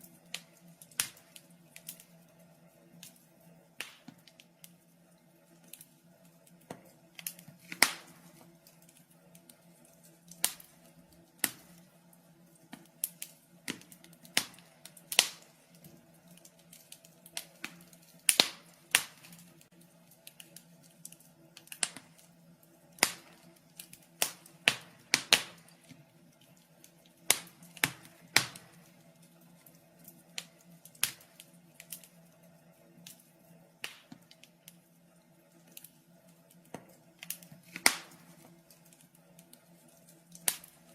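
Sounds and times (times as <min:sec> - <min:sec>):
faint steady low hum: 0:00.0 - 0:40.9
wood fire crackling: 0:00.0 - 0:40.9.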